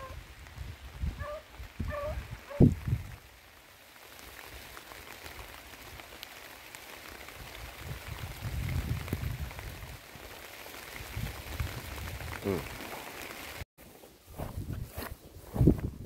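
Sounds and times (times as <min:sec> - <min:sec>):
steady rain falling: 0:00.0 - 0:13.7.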